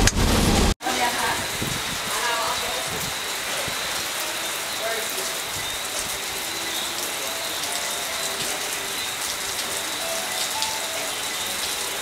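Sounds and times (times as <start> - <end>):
falling water hiss and patter: 0.8 - 12.0.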